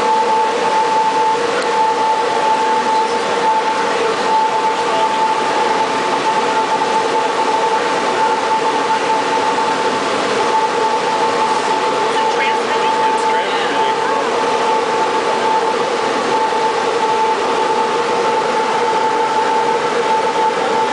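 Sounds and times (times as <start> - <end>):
high steady tone: 0.0 - 20.9
transmitter machine noise: 0.0 - 20.9.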